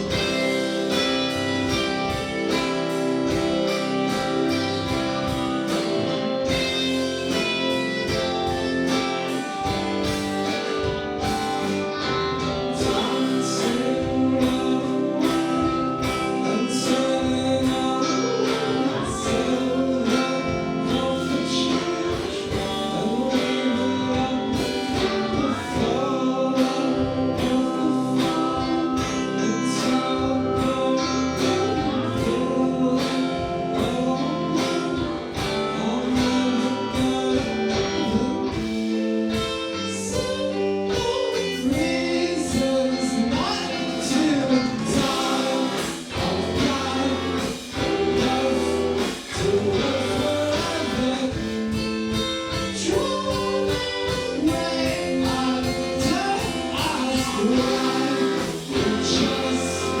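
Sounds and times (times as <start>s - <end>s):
guitar: 0.0s - 60.0s
person singing: 0.0s - 60.0s
steady drum beat: 0.0s - 60.0s.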